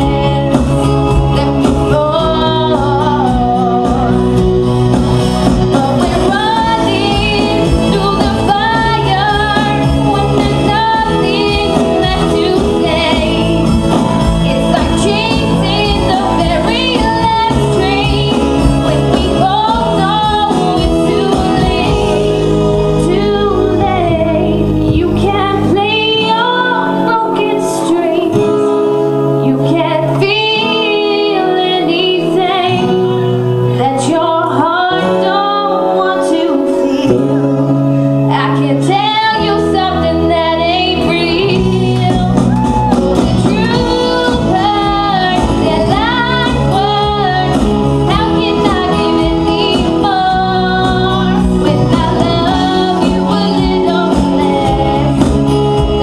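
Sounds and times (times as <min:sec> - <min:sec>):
amplified instrumental backing: 0:00.0 - 0:56.0
woman singing into microphone: 0:00.0 - 0:56.0.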